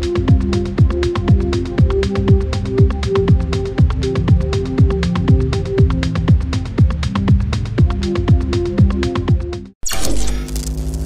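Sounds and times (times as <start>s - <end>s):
kick drum: 0.0s - 9.7s
electronic music: 0.0s - 11.0s.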